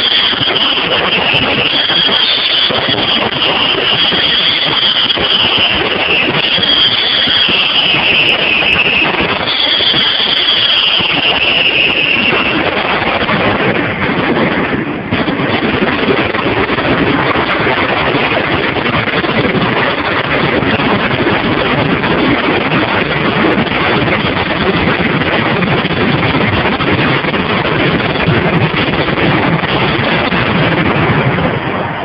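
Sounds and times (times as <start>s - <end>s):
fireworks barrage: 0.0s - 32.0s.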